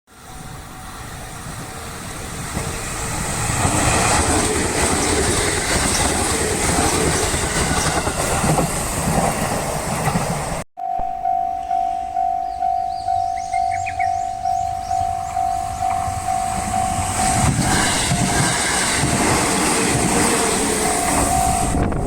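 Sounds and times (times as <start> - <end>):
train passing with wheel clatter: 0.1 - 10.6, 11.8 - 22.0.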